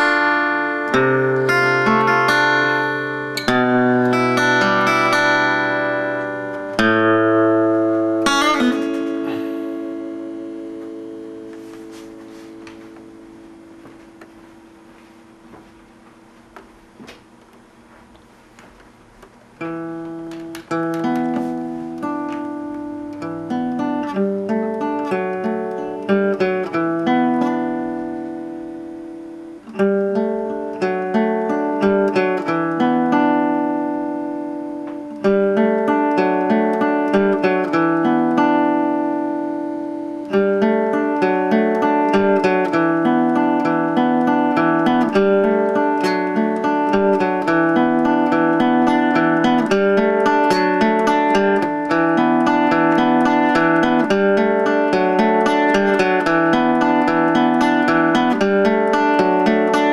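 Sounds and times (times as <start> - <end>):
fingerpicked acoustic guitar: 0.0 - 59.9.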